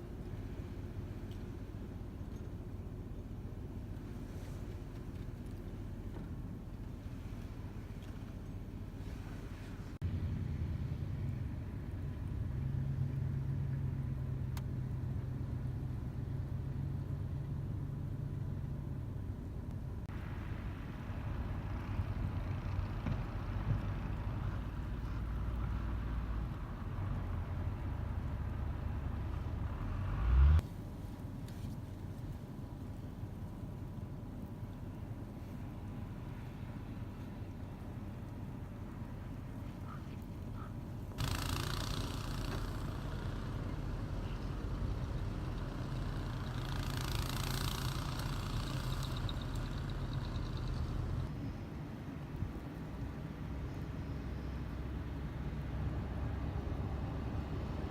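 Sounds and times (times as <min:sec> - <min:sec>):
vehicle engine rumbling: 0:00.0 - 0:57.9.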